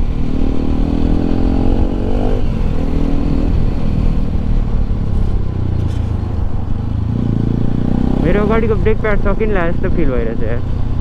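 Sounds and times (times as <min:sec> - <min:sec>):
motorcycle engine and exhaust: 0:00.0 - 0:11.0.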